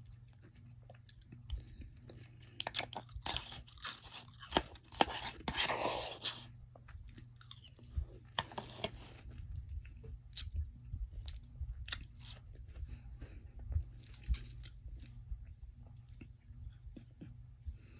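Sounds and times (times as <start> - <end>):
frost crunching while chewed: 0.0 - 15.2
steady low hum: 0.0 - 17.9.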